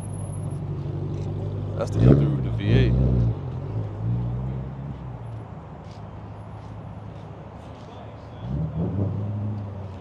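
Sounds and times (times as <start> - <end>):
car engine rumbling: 0.0 - 10.0
people's voices: 0.8 - 10.0.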